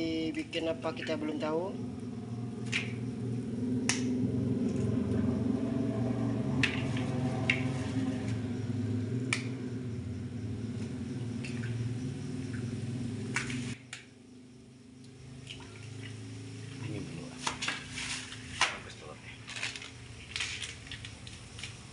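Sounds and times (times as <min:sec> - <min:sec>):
low hum: 0:00.0 - 0:18.6.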